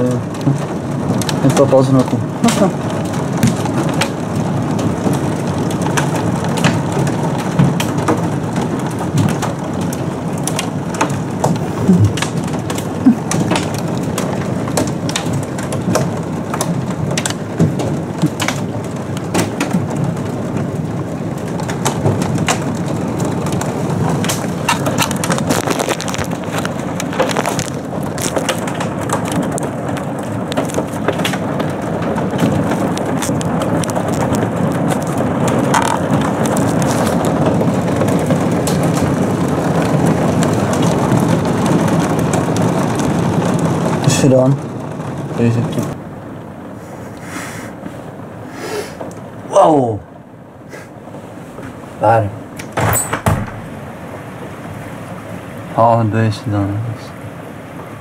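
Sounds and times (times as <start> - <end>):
hailstones ticking: 0.0 - 58.0
heavy rain on a car: 0.0 - 58.0.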